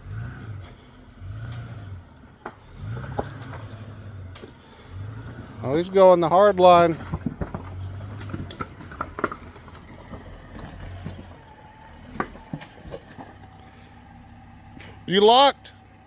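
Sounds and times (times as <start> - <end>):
off-road engine at low revs: 0.0 - 16.0.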